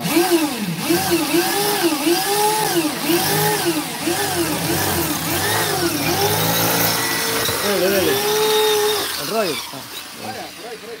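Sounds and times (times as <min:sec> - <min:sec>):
motor pitch rising and falling: 0:00.0 - 0:10.4.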